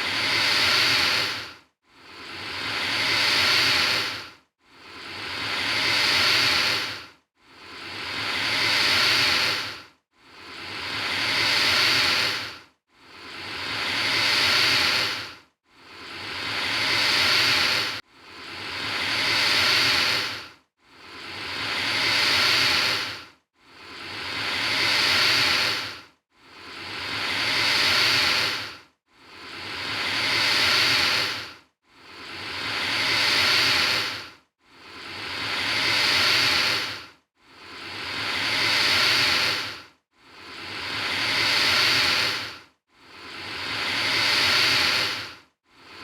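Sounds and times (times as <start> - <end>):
alligator hissing: 0.0 - 1.4, 2.1 - 4.2, 5.0 - 7.0, 7.7 - 9.8, 10.4 - 12.5, 13.2 - 15.3, 15.9 - 20.4, 21.1 - 26.0, 26.6 - 34.2, 34.9 - 37.0, 37.7 - 39.8, 40.4 - 42.6, 43.3 - 45.3.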